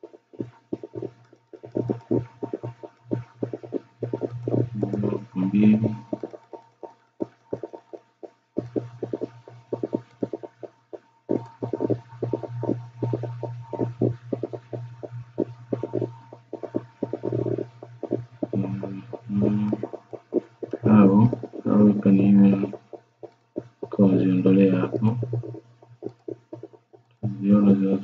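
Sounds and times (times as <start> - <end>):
computer mouse clicking: 0.0 - 28.0
low electrical hum: 0.4 - 7.9, 8.5 - 28.0.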